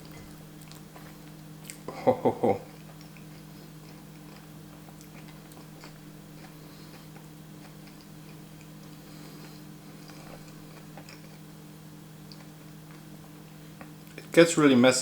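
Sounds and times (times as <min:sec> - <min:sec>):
chewing toasted sandwich: 0:00.0 - 0:01.9, 0:02.6 - 0:14.4
low electrical hum: 0:00.0 - 0:15.0.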